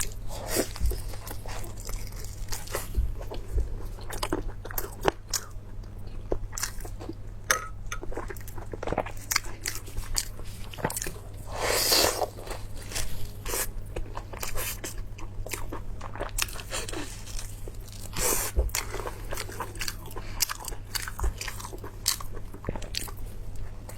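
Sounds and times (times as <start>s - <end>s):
person chewing crunchy food: 0.0s - 23.9s.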